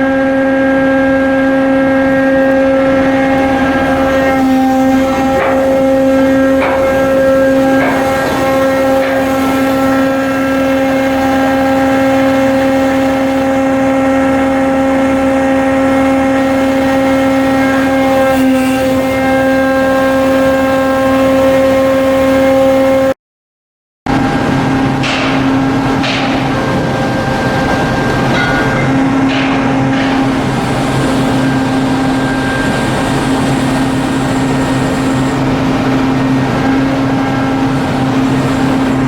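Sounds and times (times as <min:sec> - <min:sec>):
ship diesel machinery humming: 0:00.0 - 0:23.1, 0:24.1 - 0:39.0.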